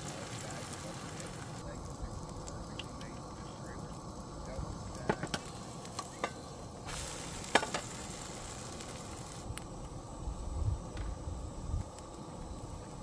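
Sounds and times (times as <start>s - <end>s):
pancake sizzling in oil: 0.0s - 13.0s.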